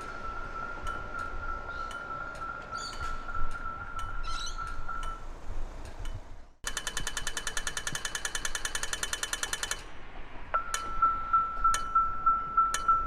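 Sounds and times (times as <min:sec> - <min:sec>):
rapid electronic ticking walk signal: 0:00.0 - 0:05.3, 0:05.9 - 0:09.9, 0:10.6 - 0:13.0
slow locator ticks: 0:00.0 - 0:09.9, 0:10.5 - 0:13.0.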